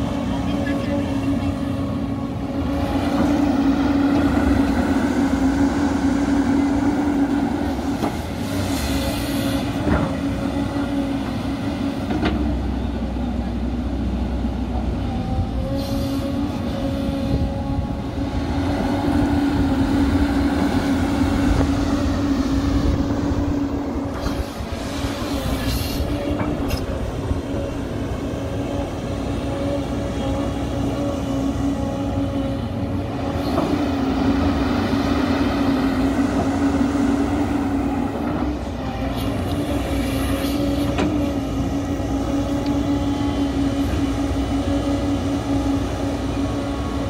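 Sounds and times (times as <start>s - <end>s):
excavator engine and hydraulics droning: 0.0s - 47.0s.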